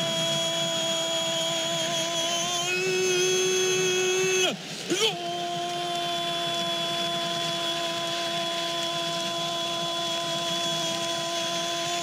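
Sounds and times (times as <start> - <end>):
stadium crowd noise: 0.0 - 12.0.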